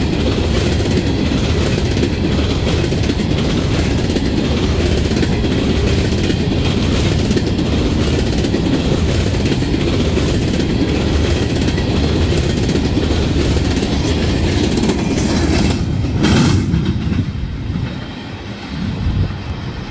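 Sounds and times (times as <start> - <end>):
wheels clacking over rail joints: 0.0 - 18.6
freight train rolling past: 0.0 - 19.9.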